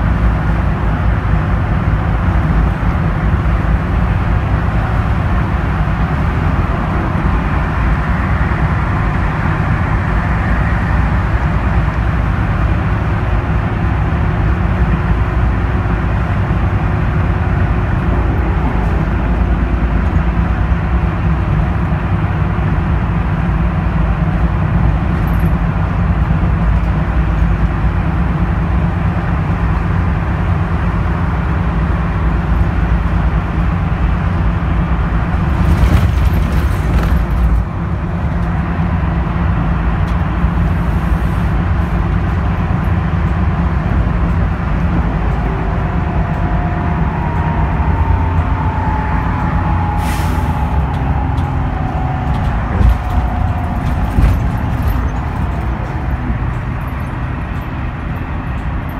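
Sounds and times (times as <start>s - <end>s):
bus engine drone: 0.0s - 58.9s
road noise: 0.0s - 58.9s.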